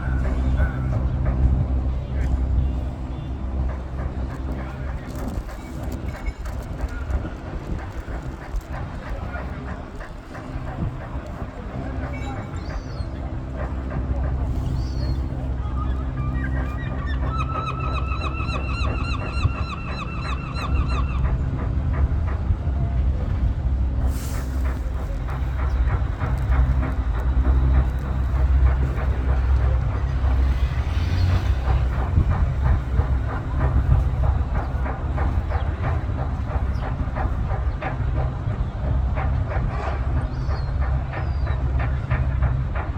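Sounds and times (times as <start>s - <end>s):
boat engine rumbling and ticking: 0.0s - 42.9s.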